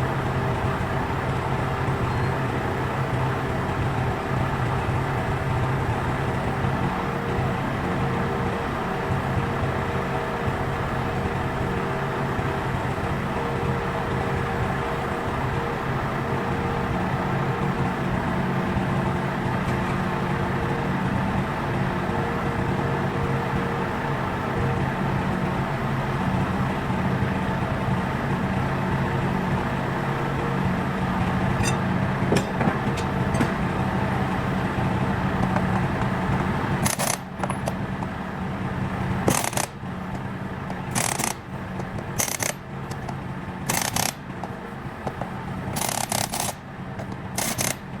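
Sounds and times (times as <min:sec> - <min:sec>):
engine idling: 0:00.0 - 0:48.0.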